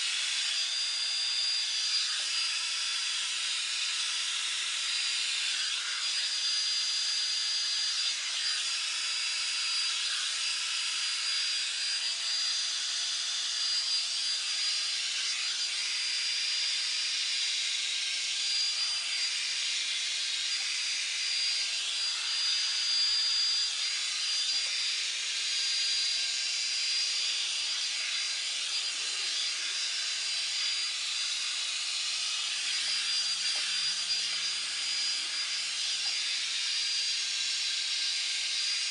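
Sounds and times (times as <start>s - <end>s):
hot-air brush dryer running: 0.0s - 38.9s.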